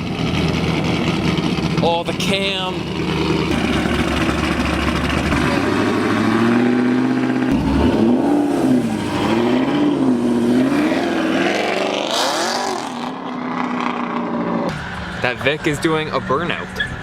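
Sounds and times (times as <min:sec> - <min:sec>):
car engine revving: 0:00.0 - 0:15.7.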